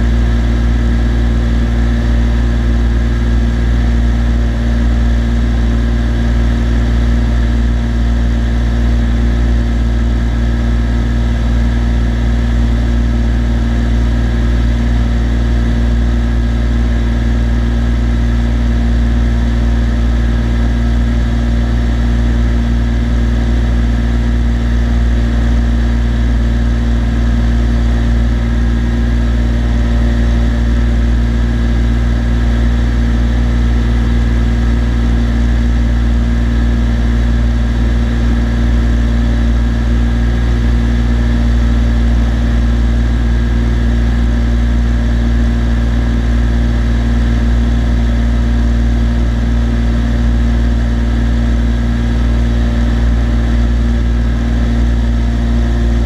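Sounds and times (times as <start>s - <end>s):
airplane engine and propeller drone: 0.0s - 56.0s.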